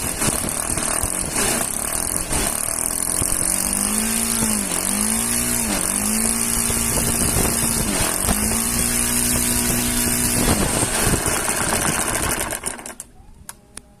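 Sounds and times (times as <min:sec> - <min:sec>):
model aircraft engine running: 0:00.0 - 0:13.1.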